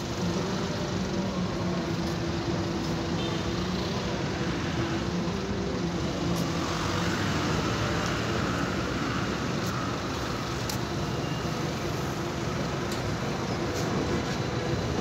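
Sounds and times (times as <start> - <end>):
street traffic noise: 0.0 - 15.0
tram rolling along tracks: 0.0 - 15.0.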